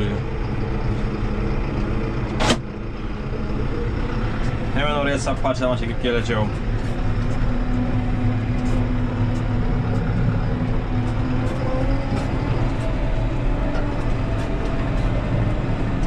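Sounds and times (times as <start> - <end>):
tractor diesel engine droning: 0.0 - 16.0.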